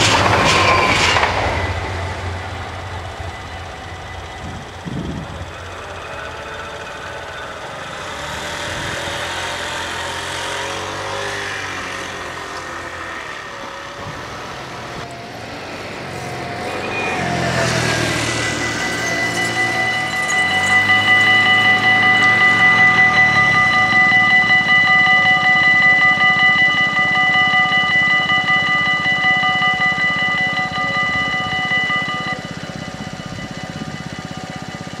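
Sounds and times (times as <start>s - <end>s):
cars passing: 0.0s - 31.8s
moped engine: 0.0s - 35.0s.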